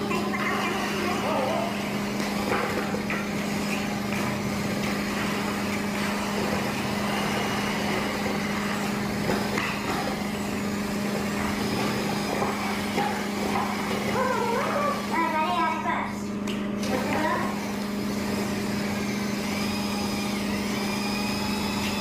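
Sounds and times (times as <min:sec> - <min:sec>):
steady motor hum: 0:00.0 - 0:22.0.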